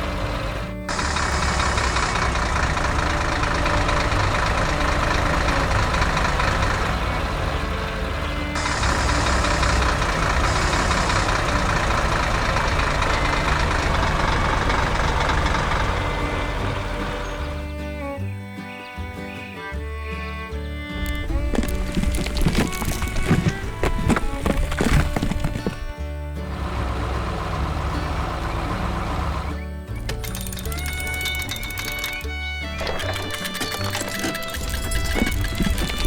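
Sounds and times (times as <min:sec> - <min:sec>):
heavy vehicle engine running: 0:00.0 - 0:18.3, 0:20.9 - 0:36.0.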